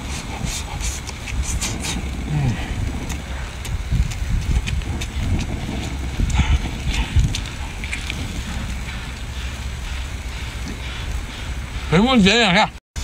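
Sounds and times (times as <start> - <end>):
wet chewing and lip-smacking: 0.0 - 11.5
steady low rumble: 0.0 - 12.8.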